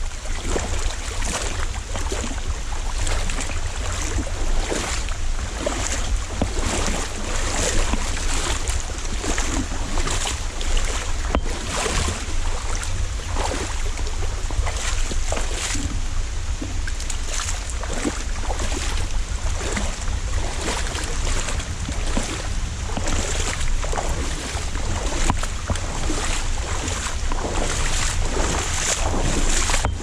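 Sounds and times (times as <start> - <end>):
water splashing from wading: 0.0 - 30.0
wind rumble on microphone: 0.0 - 30.0.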